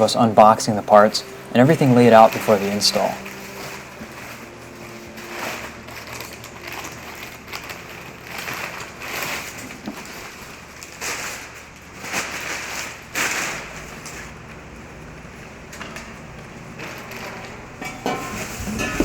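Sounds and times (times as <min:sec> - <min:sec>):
packaging rustling and crinkling: 0:00.0 - 0:14.6, 0:15.8 - 0:19.0.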